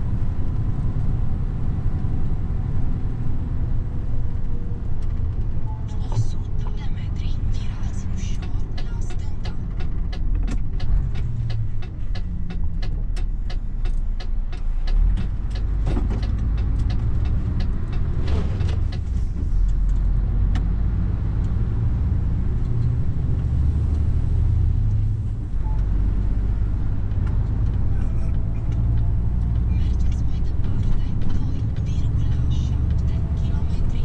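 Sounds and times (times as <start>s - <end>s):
truck diesel engine drone: 0.0s - 34.0s
turn indicator ticking: 4.0s - 24.1s, 24.8s - 34.0s.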